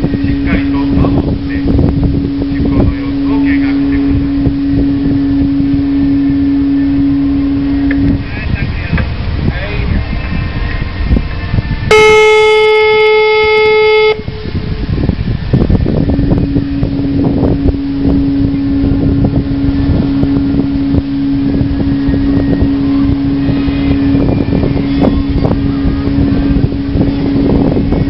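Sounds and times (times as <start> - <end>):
engine rumble: 0.0 - 28.0
low steady tone: 0.0 - 28.0
ship's horn blast: 0.0 - 28.0
wind: 0.0 - 28.0.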